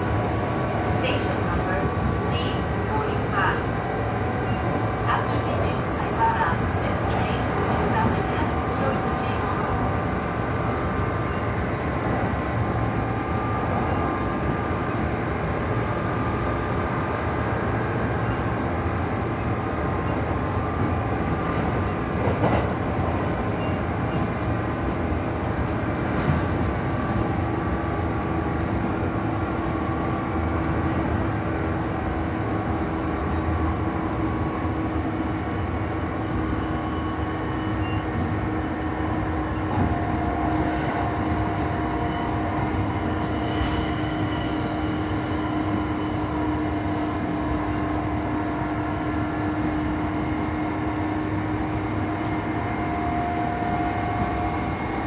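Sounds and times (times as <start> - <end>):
train motors and gears whining: 0.0 - 55.0
train running noise: 0.0 - 55.0.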